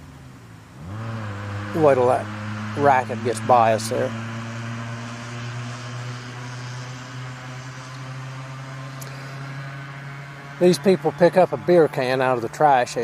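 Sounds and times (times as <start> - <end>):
loud exhaust vehicle passing: 0.0 - 13.0.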